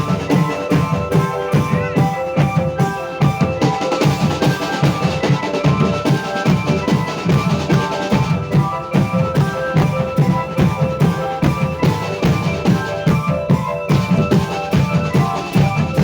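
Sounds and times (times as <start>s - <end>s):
music with quick drum beat: 0.0s - 16.0s.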